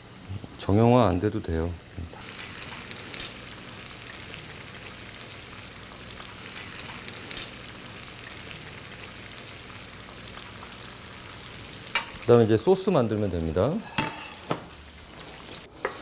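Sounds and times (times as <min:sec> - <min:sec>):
fish deep-frying in oil: 0:02.1 - 0:15.7.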